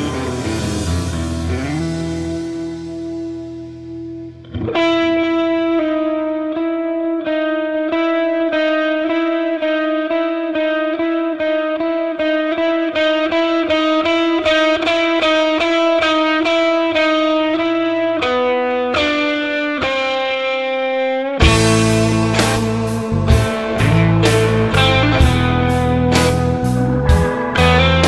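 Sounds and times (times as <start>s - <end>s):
electric guitar blues: 0.0s - 28.0s.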